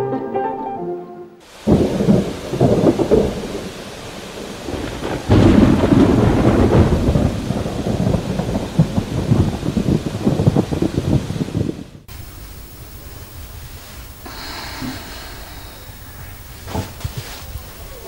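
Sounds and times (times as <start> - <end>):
rain: 1.4 - 18.0
thunder: 1.6 - 18.0.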